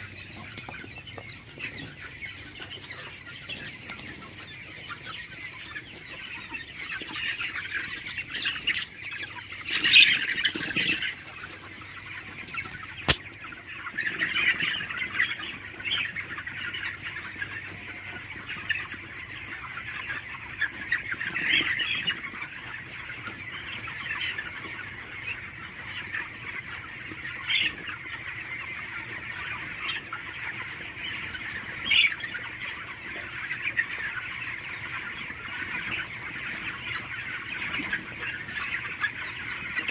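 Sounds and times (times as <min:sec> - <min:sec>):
chicken squawks: 0:00.0 - 0:39.9
chickens clucking: 0:00.0 - 0:39.9.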